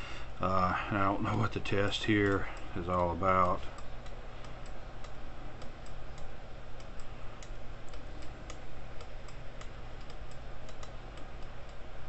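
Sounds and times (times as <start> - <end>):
steady low hum: 0.0 - 12.0
light irregular ticking clicks: 0.9 - 12.0.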